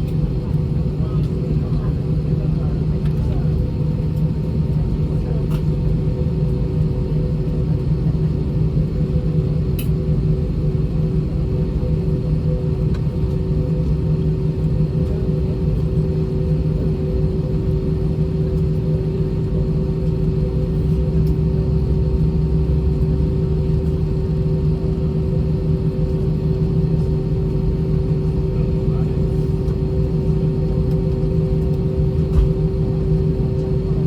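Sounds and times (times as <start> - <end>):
airplane cabin engine drone: 0.0 - 34.0
steady humming tones: 0.0 - 34.0.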